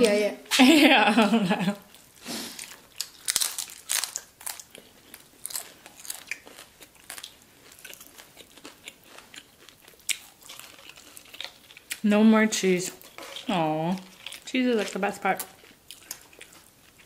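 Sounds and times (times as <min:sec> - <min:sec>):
crunching and chewing crispy food: 0:01.8 - 0:17.0.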